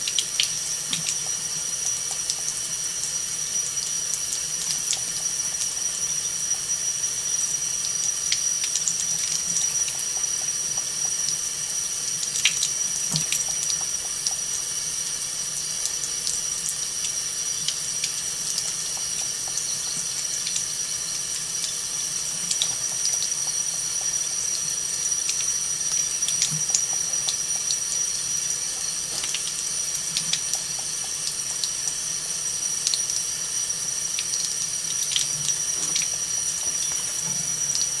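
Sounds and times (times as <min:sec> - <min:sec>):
faint water ticks and splashes: 0:00.0 - 0:38.0
faucet water running into sink: 0:00.0 - 0:38.0.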